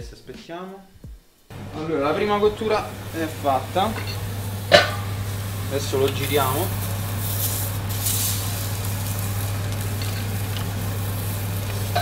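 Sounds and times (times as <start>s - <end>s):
bacon frying: 1.5s - 12.0s
patty sizzling in frying pan: 1.5s - 12.0s
steady low hum: 1.5s - 12.0s.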